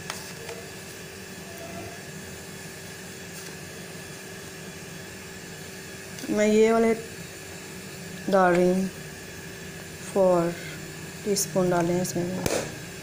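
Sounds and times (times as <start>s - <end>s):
pot of water boiling: 0.0s - 13.0s.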